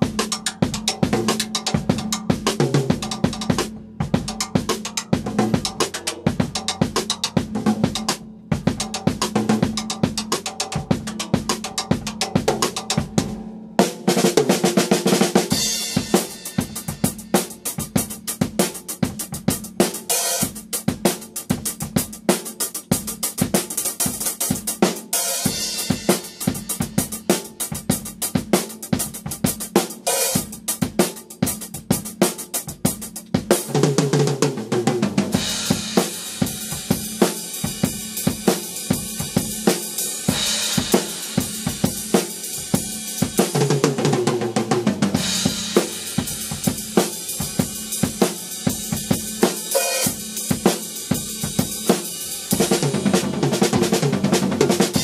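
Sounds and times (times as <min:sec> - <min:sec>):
drum kit played fast: 0:00.0 - 0:55.0
rolling drum fills: 0:00.0 - 0:55.0.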